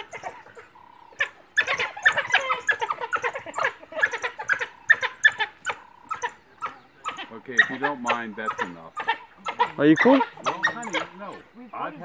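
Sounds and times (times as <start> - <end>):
wild dogs twittering: 0.0 - 12.0.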